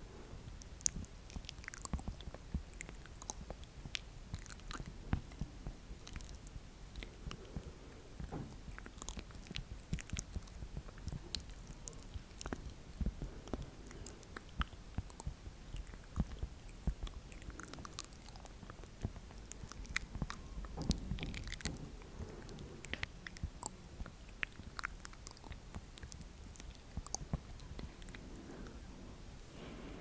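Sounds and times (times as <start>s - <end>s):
wet mouth clicks and smacks: 0.6s - 28.2s.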